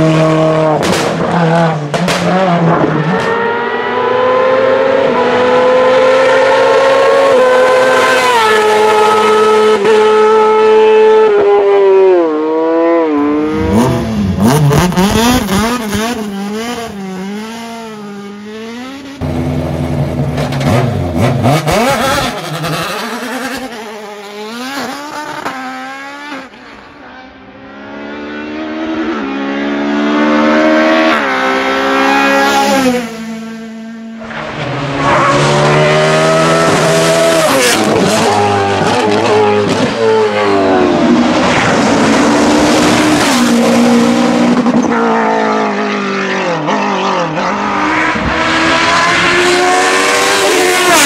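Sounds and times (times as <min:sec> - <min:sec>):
race car engines at high revs: 0:00.0 - 0:51.0.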